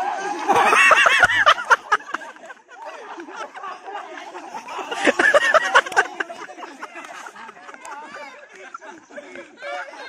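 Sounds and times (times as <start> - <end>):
young men shouting and laughing: 0.0 - 10.0.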